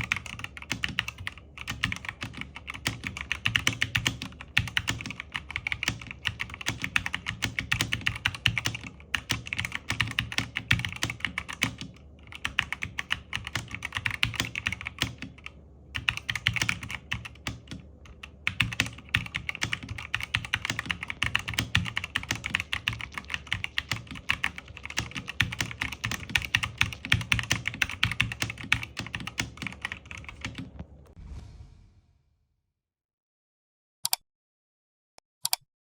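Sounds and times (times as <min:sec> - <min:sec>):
fast typing on mechanical keyboard: 0:00.0 - 0:30.8.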